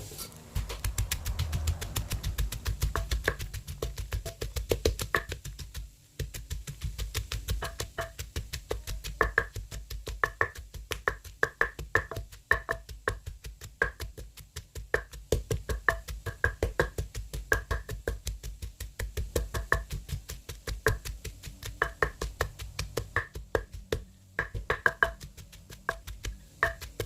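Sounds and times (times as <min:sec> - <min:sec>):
pestle pounding in a mortar: 0:00.1 - 0:27.0.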